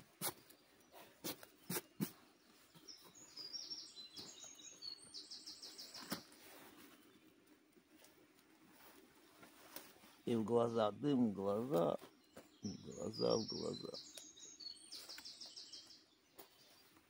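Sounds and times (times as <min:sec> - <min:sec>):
songbird singing with trill: 0:00.3 - 0:07.2, 0:10.1 - 0:16.9.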